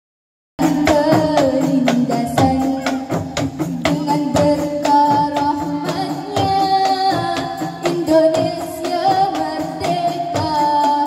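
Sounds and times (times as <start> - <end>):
frame drums beating: 0.6 - 11.0
women singing: 0.6 - 11.0.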